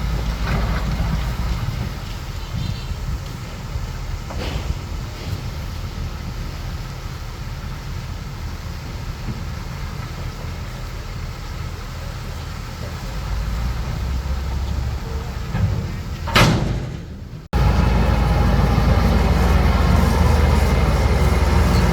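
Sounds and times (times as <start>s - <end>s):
bulldozer diesel engine rumble: 0.0s - 21.9s.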